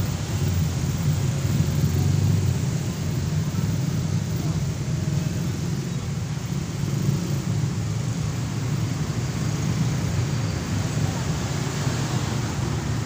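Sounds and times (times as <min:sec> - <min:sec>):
dense road traffic hum: 0:00.0 - 0:13.0.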